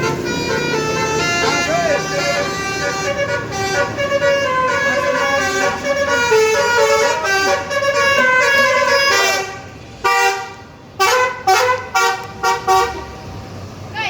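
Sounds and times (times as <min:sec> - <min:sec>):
musical air horn playing a tune: 0:00.0 - 0:13.1
short air horn blasts: 0:00.0 - 0:13.1.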